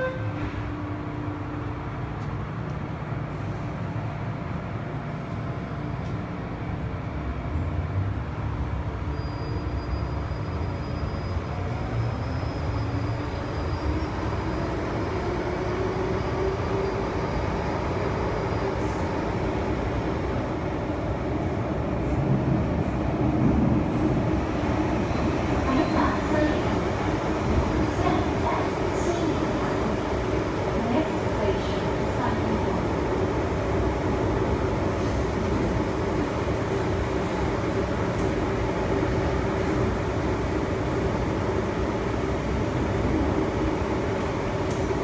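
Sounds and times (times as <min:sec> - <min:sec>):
train low rumble: 0:00.0 - 0:45.0.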